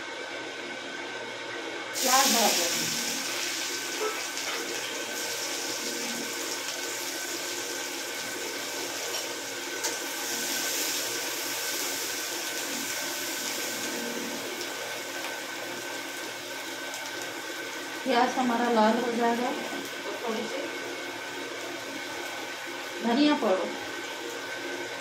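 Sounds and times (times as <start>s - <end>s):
onions sizzling in hot oil: 1.9s - 25.0s.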